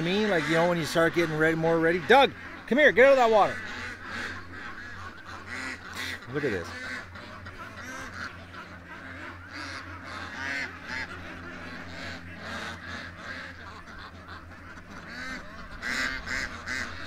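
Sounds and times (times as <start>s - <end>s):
ducks and geese calling: 0.0s - 17.0s
low hum: 0.0s - 17.0s.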